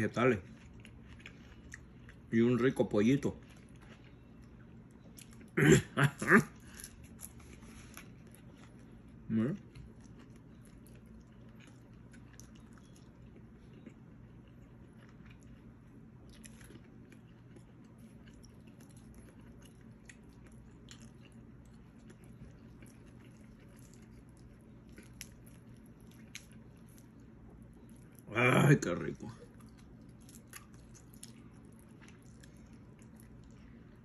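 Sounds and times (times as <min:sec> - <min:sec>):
low steady hum: 0:00.0 - 0:34.0
faint chewing: 0:00.2 - 0:02.6, 0:03.2 - 0:05.6, 0:06.4 - 0:28.3, 0:29.2 - 0:34.0.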